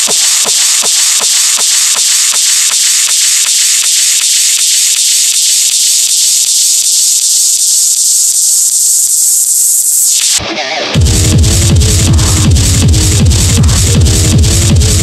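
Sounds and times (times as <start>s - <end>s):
faint techno beat: 0.0s - 9.9s, 11.0s - 15.0s.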